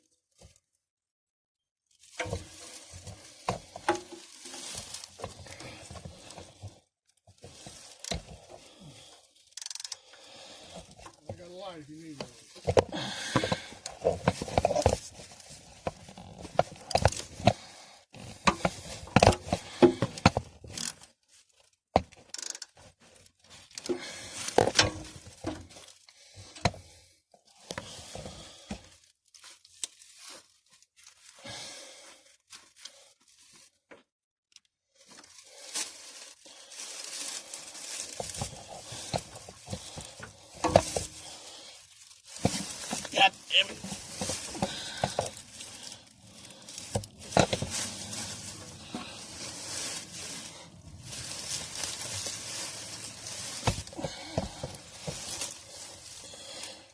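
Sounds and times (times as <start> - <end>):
rustling: 1.9 - 33.9, 35.0 - 56.9.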